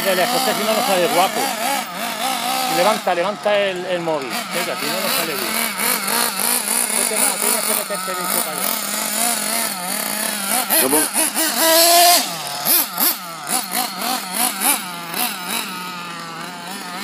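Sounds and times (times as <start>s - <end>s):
rc buggy engine revving: 0.0s - 17.0s.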